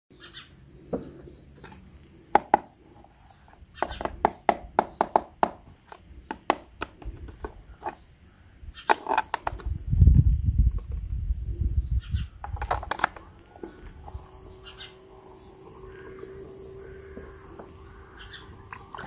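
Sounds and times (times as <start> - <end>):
birds chirping: 0.1 - 19.0.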